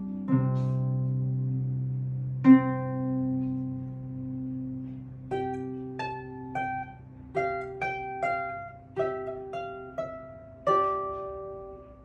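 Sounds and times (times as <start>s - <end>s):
harp plucked notes: 0.0s - 12.0s.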